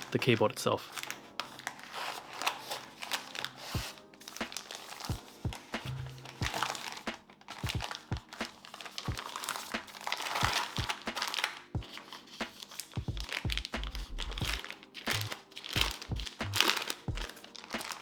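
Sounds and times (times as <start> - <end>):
soft background music: 0.0 - 18.0
wrapping crinkling and rustling: 0.0 - 18.0.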